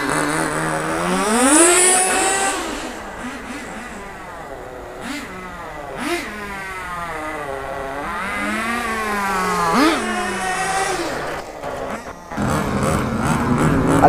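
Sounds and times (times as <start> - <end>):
rc car engine revving: 0.0 - 14.0.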